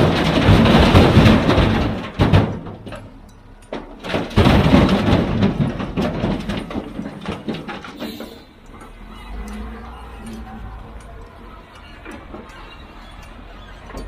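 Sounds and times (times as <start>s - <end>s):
heavy machinery rumble: 0.0s - 14.0s
knocks and clatter: 0.0s - 14.0s.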